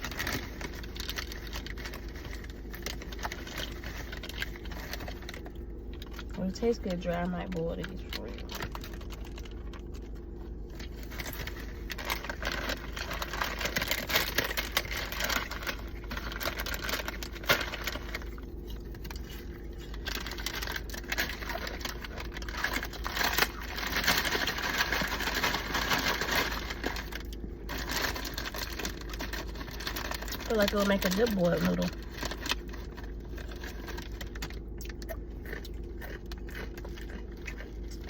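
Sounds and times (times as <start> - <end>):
crunching of dry snack being eaten: 0.0 - 38.0
snack packet crinkling: 0.0 - 38.0.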